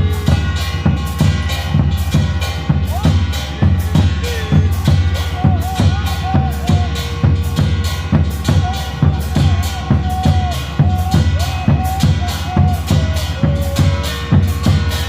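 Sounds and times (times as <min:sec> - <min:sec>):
quick drum beat: 0:00.0 - 0:15.0.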